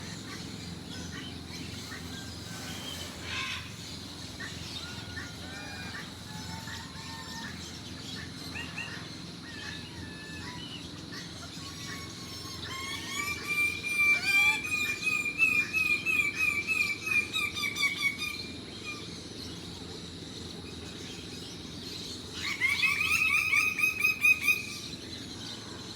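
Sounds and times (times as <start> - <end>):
birds chirping and whistling: 0.0 - 25.9.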